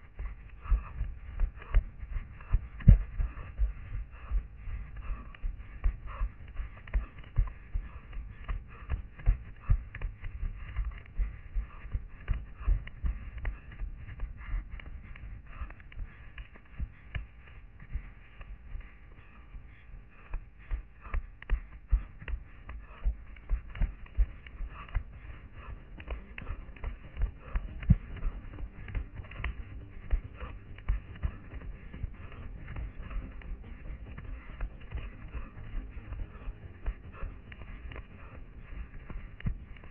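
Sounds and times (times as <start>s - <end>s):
running footsteps on dry undergrowth: 0.0s - 39.9s.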